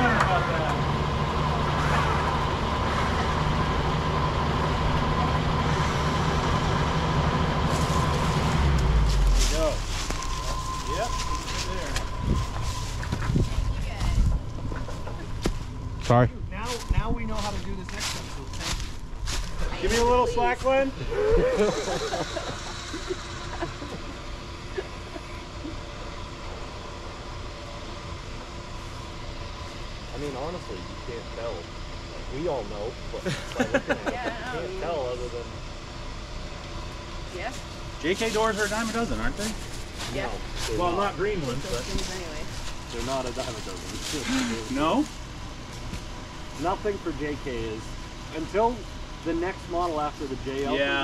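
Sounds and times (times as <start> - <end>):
steady high whine: 0.0 - 51.0
vehicle engine idling: 0.0 - 51.0.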